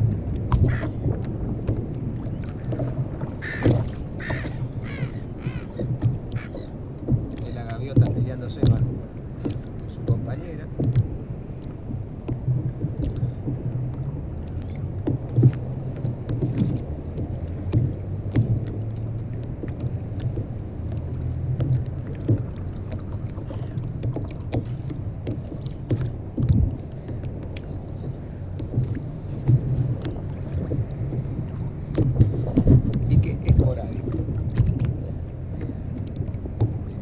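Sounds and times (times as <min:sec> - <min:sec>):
water washing against hull: 0:00.0 - 0:37.0.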